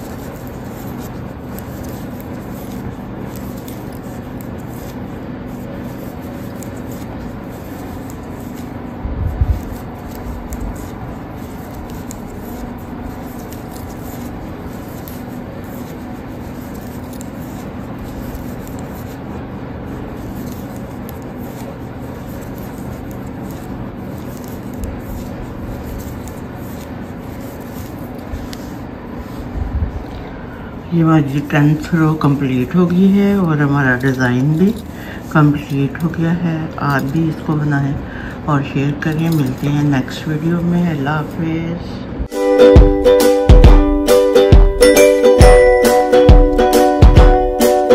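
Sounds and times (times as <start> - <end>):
knitting needles rubbing yarn: 0.0 - 30.2, 30.8 - 38.0, 38.7 - 41.4
low hum and hiss: 0.0 - 47.9.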